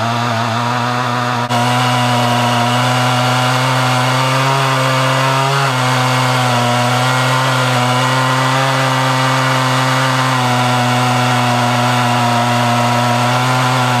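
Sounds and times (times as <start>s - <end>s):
chainsaw cutting through log: 0.0s - 14.0s.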